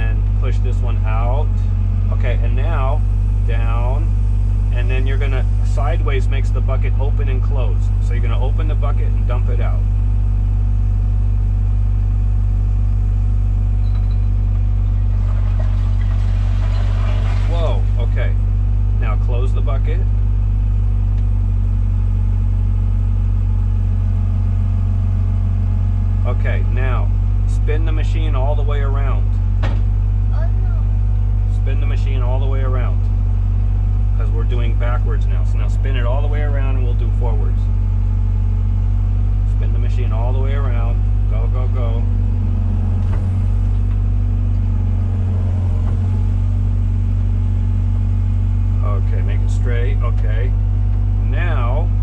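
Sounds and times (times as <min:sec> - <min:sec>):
excavator diesel engine droning: 0:00.0 - 0:29.6, 0:30.3 - 0:52.0.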